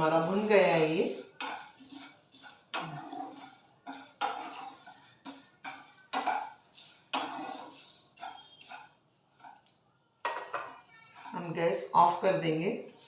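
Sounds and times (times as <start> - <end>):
spatula scraping metal pan: 0.0 - 13.0.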